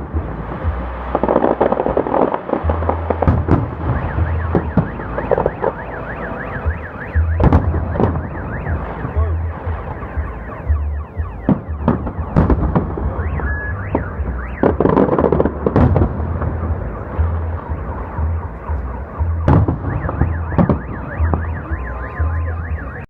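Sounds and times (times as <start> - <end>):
firework bangs: 0.0 - 23.0
firework crackling: 0.0 - 23.0
car alarms wailing: 1.2 - 23.0.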